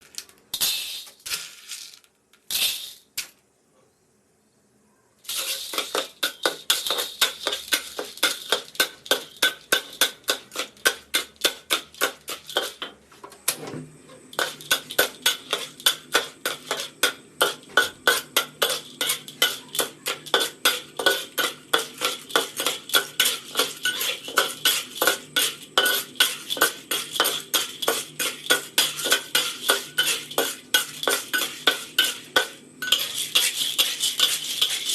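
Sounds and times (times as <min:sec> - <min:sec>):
metal utensil stirring metal pot: 0:05.3 - 0:13.0, 0:14.2 - 0:34.9.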